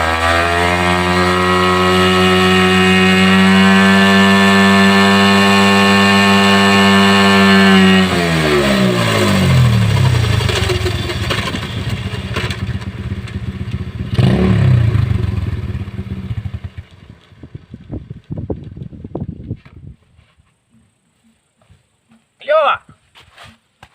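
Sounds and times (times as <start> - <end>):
motorbike engine revving: 0.0 - 19.3.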